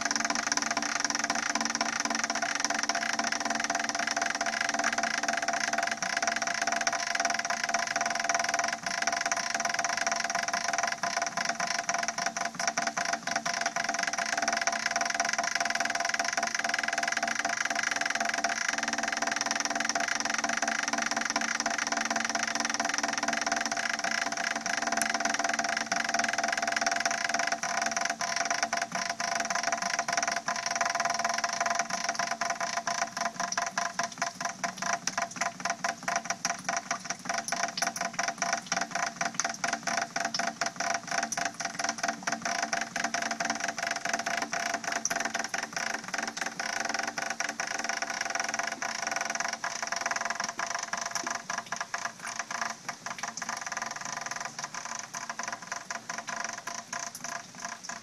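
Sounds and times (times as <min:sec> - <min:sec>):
water dripping into plastic buckets: 0:00.0 - 0:58.0.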